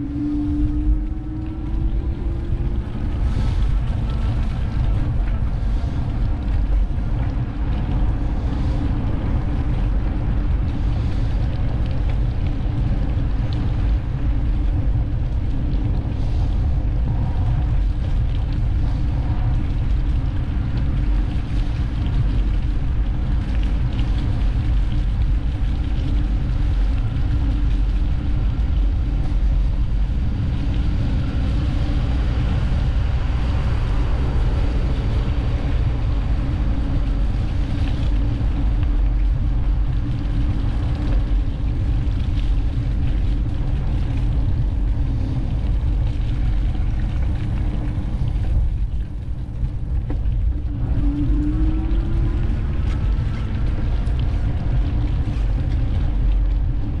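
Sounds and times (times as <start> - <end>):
bicycle riding noise: 0.0 - 57.0
wind buffeting microphone: 0.0 - 57.0.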